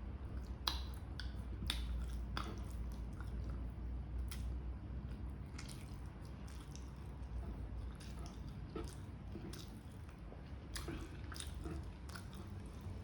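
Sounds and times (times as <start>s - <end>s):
person chewing: 0.1s - 13.0s
wet mouth clicks and smacks: 0.3s - 13.0s.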